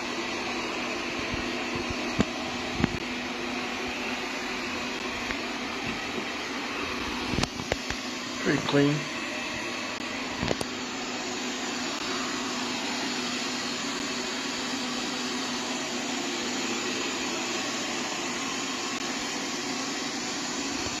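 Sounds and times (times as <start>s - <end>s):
robot vacuum cleaner whirring: 0.0s - 21.0s.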